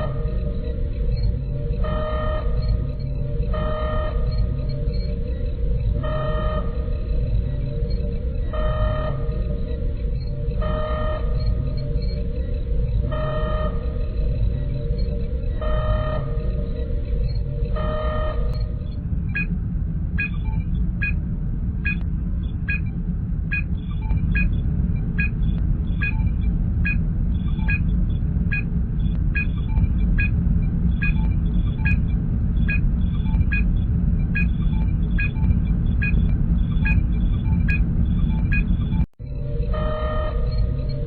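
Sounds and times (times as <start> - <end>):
low engine rumble: 0.0 - 41.0.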